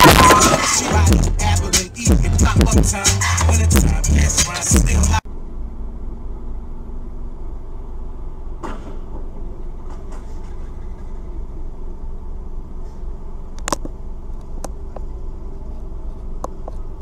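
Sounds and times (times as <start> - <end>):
car rumbling in traffic: 0.0 - 17.0.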